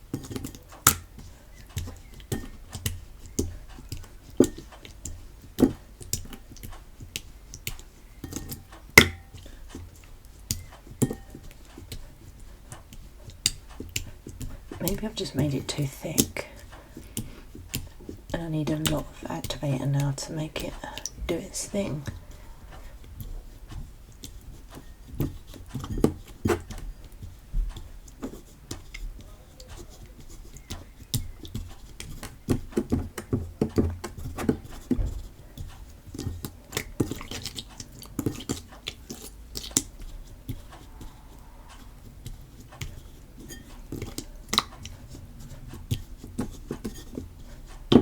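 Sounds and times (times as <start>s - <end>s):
slime squelching: 0.0s - 48.0s.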